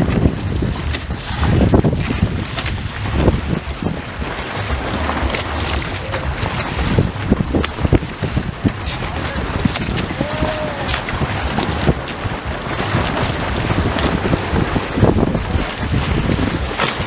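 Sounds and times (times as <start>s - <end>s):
short knocks or splashes: 0.0s - 17.0s
wind buffeting microphone: 0.0s - 17.0s.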